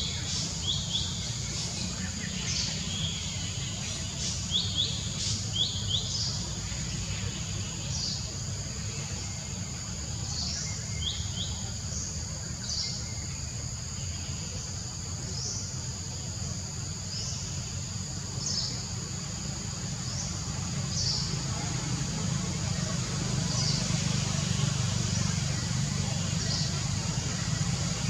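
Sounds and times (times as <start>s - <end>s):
high insect drone: 0.0s - 28.0s
low steady rumble: 0.0s - 28.0s.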